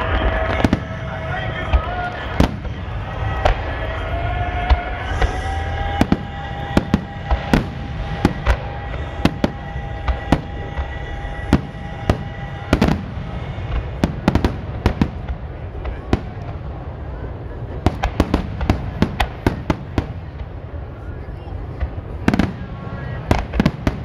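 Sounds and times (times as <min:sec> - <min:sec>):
continuous low rumble: 0:00.0 - 0:24.0.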